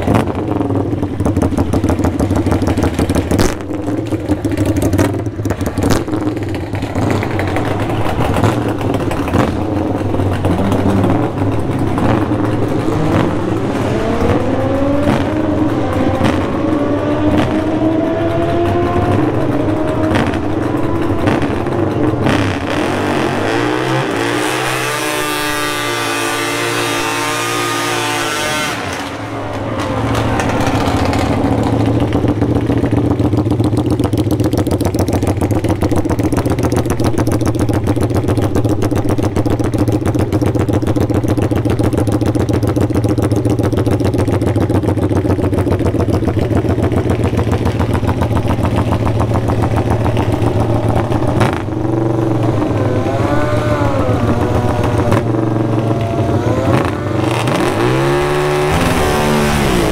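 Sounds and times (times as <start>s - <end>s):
engine idling and revving: 0.0s - 59.9s.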